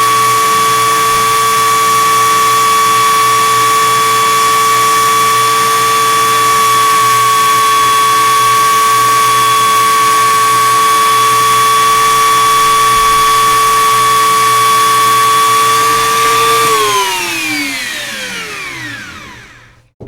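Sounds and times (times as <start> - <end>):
electric rotary tool whining: 0.0 - 20.0.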